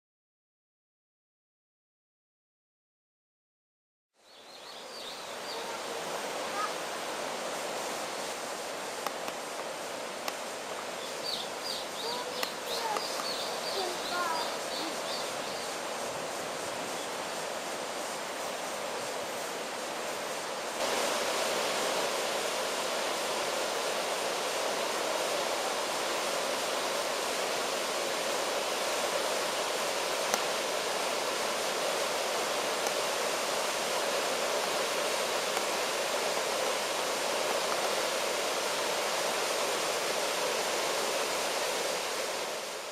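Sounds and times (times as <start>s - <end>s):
waterfall rushing: 4.4s - 42.9s.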